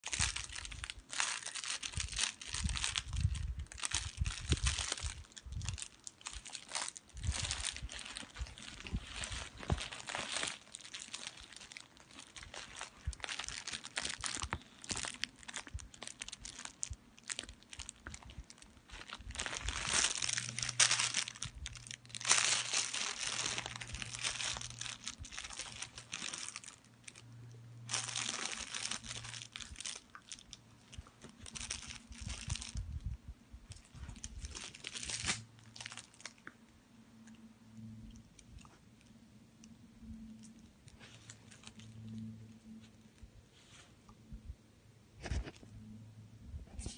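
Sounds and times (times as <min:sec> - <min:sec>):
fabric rustling and crinkling: 0:00.0 - 0:33.1, 0:33.7 - 0:36.5, 0:40.4 - 0:44.0
low steady hum: 0:00.0 - 0:46.9.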